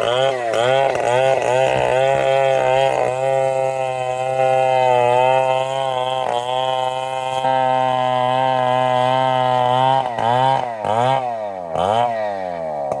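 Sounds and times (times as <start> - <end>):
chainsaw cutting wood plank: 0.0 - 13.0.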